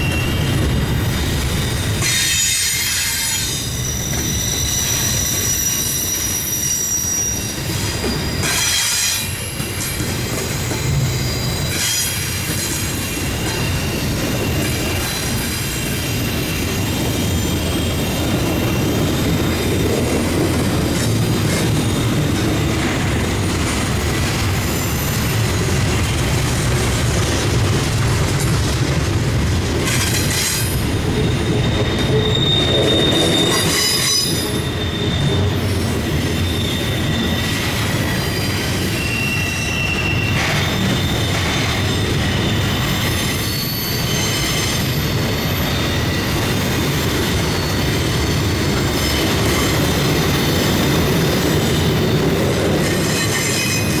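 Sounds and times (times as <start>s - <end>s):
wheel squeal on rails: 0.0s - 28.8s, 29.8s - 54.0s
freight train rumbling past: 0.0s - 54.0s.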